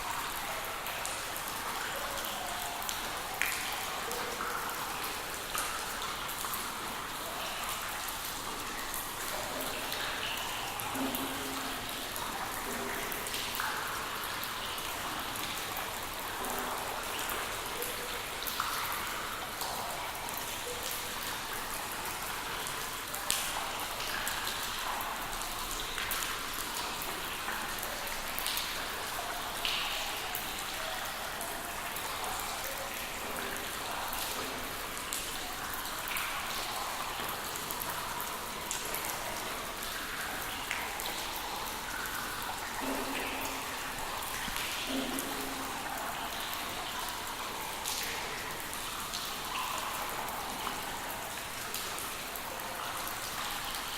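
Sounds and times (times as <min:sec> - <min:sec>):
rain pattering on hard surface: 0:00.0 - 0:53.9.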